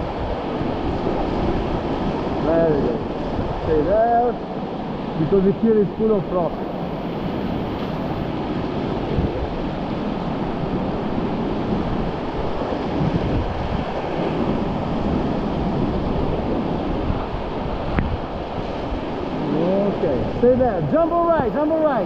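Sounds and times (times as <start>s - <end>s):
river rapid rushing: 0.0s - 22.0s
wind buffeting microphone: 0.0s - 22.0s.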